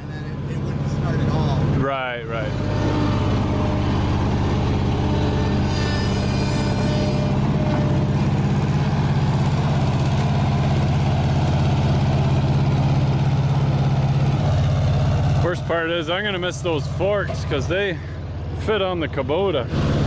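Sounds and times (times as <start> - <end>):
engine running with rhythmic pulse: 0.0 - 20.0.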